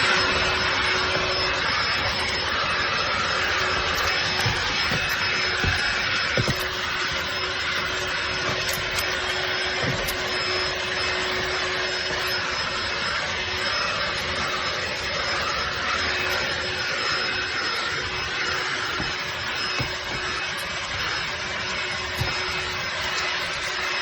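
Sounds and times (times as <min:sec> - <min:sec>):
handheld vacuum running: 0:00.0 - 0:24.0.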